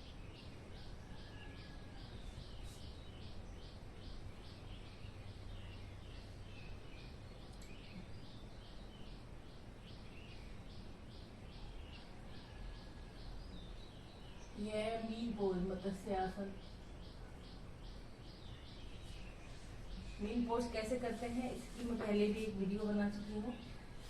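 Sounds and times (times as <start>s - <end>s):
birds chirping: 0.0s - 24.0s
low background hum: 0.0s - 24.0s.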